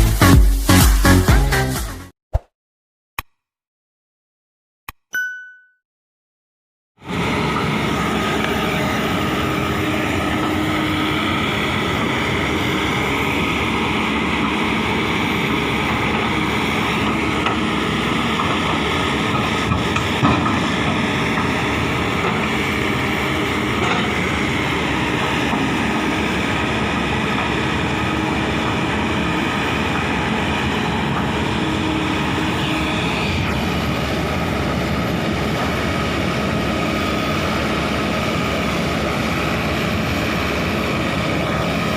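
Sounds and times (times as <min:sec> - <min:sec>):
excavator diesel engine running: 0:07.0 - 0:41.9.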